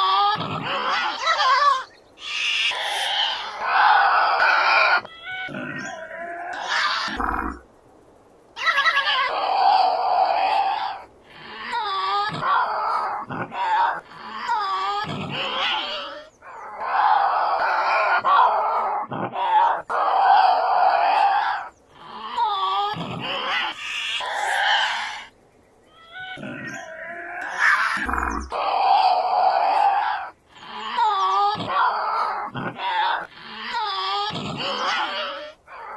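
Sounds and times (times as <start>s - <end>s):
animal screeching and growling: 0.0s - 7.6s, 8.6s - 25.3s, 25.9s - 35.9s.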